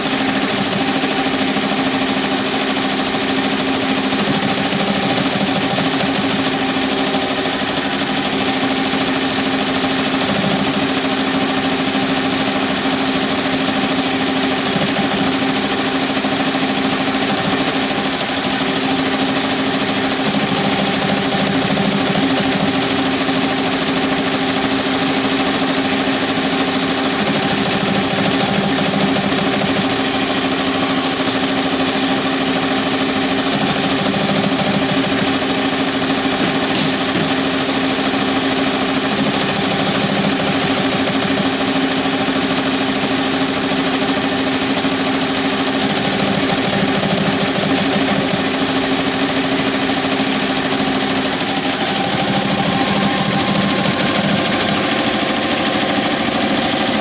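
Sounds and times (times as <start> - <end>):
embroidery machine rattling: 0.0 - 57.0.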